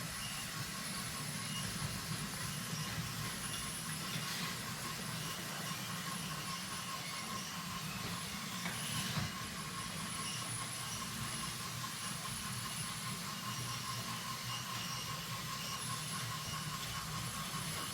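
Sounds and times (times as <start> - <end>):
toy trains whirring on track: 0.0 - 17.9.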